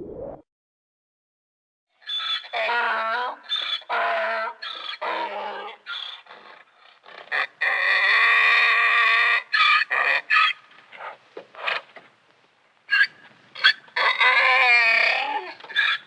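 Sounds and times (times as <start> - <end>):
donkey braying: 2.1 - 11.8, 12.9 - 16.0.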